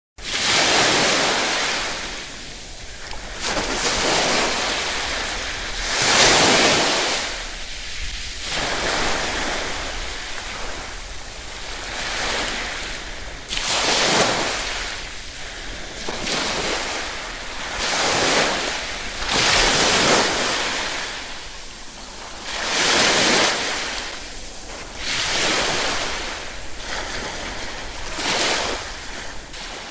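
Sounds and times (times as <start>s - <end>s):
ocean waves washing in: 0.2s - 29.9s.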